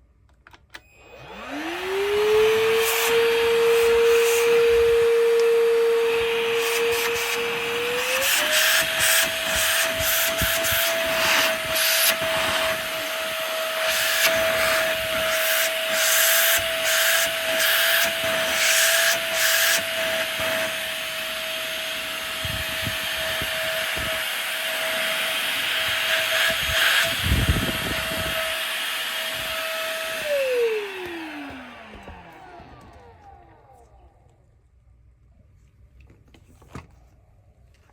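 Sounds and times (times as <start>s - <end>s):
cordless vacuum cleaner whine: 0.4s - 34.4s.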